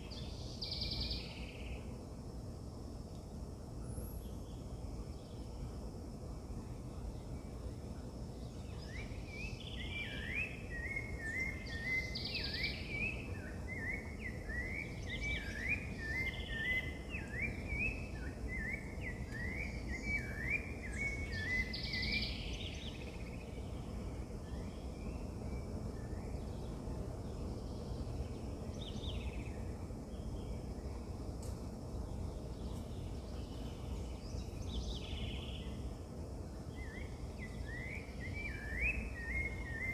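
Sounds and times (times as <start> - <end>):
birds singing: 0.0 - 2.0, 6.6 - 39.9
steady low background noise: 0.0 - 39.9.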